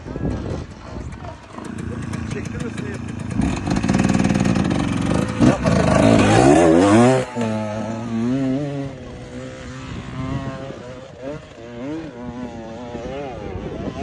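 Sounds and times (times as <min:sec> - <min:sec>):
dirt bike engine revving: 0:01.2 - 0:14.0.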